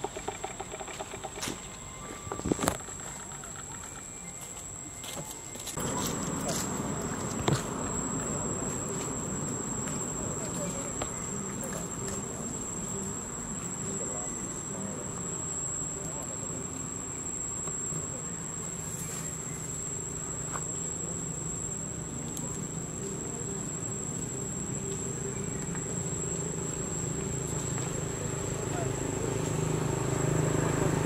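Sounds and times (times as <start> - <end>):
insects shrilling: 5.7 - 31.0.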